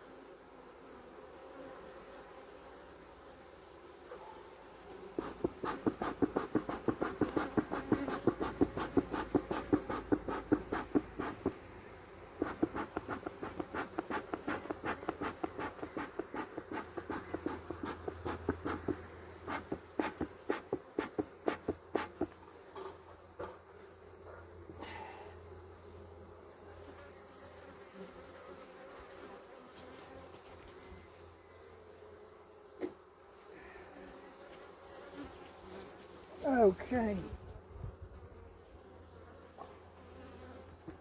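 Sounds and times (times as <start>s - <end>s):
honeybees buzzing: 0.0s - 22.7s, 25.4s - 41.0s.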